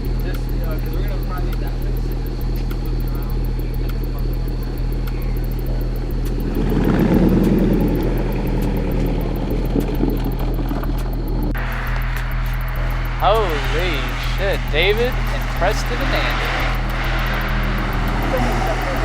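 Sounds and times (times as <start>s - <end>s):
car engines rumbling: 0.0s - 19.0s
loud exhaust rumble: 0.0s - 19.0s.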